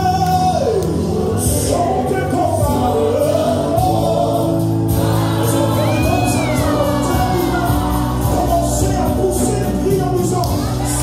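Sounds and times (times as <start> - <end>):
choir singing gospel: 0.0 - 11.0
instrumental accompaniment with bass: 0.0 - 11.0.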